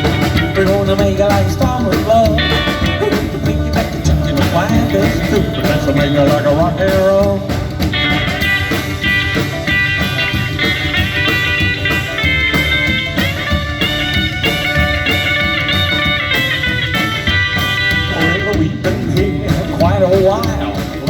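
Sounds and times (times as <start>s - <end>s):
bass guitar: 0.0s - 21.0s
electric guitar lead: 0.0s - 21.0s
steady drum beat: 0.0s - 21.0s.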